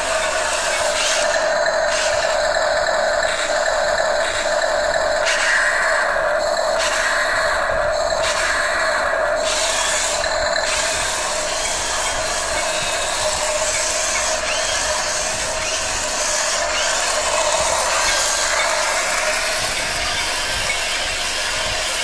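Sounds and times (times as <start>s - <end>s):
ratchet-like grinding rattle: 0.0s - 22.0s
toy tank motors whirring: 0.0s - 22.0s.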